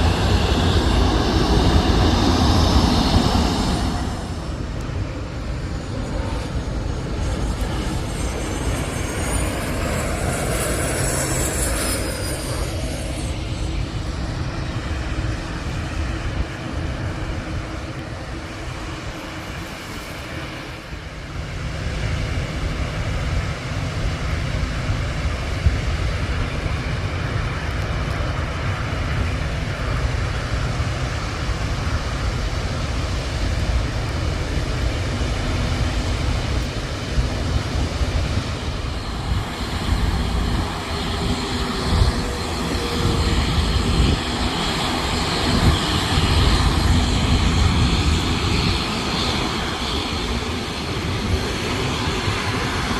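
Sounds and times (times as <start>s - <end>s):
high-pitched turbine whine: 0.0s - 52.9s
jet engine rumble: 0.0s - 52.9s.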